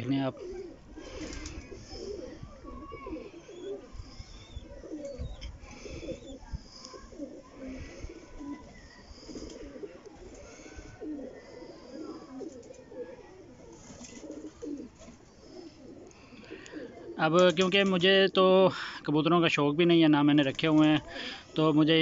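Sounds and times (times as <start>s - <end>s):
pigeons cooing: 0.0s - 18.0s, 20.8s - 21.8s.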